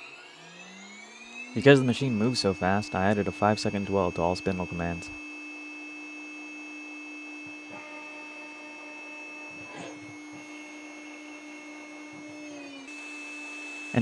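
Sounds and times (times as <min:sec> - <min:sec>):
mill spindle high-pitched whine: 0:00.0 - 0:14.0.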